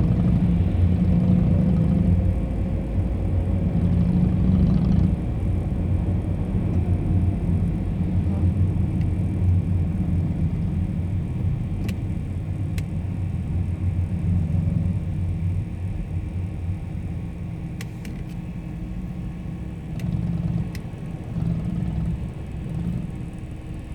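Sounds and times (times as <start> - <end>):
motorcycle engine rumbling: 0.0 - 17.1, 18.8 - 23.9.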